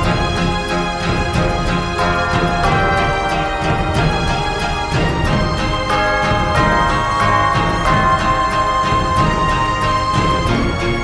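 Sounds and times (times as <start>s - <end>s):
theme music with steady beat: 0.0s - 11.0s.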